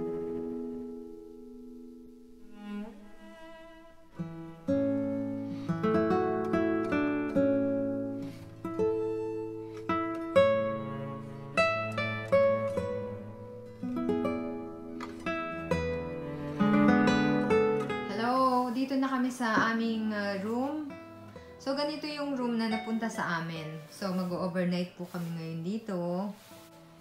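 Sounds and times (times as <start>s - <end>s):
plucked-string instrumental music: 0.0s - 27.0s.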